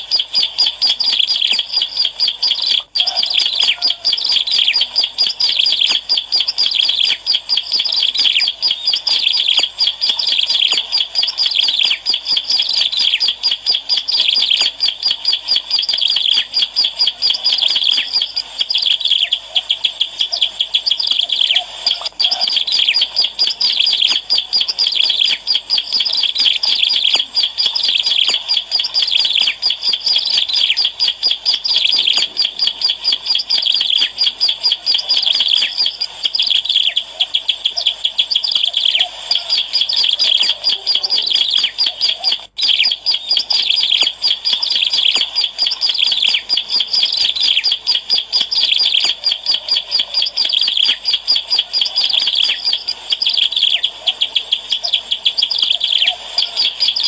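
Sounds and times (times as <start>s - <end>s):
bird singing fast chirps: 0.0s - 57.0s.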